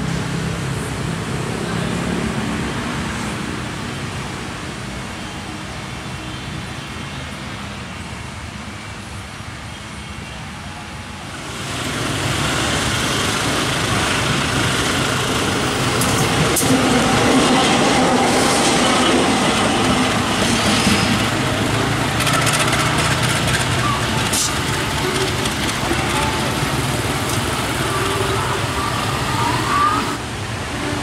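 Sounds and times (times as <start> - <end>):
diesel locomotive engine hum: 0.0 - 7.0, 10.6 - 31.0.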